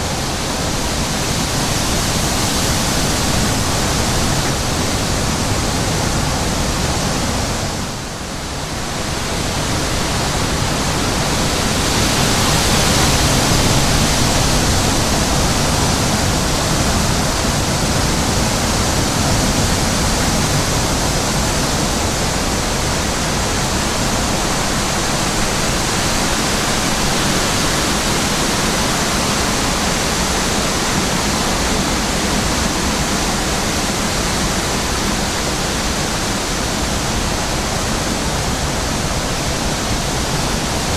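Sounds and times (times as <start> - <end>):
wind rushing and buffeting: 0.0 - 40.9.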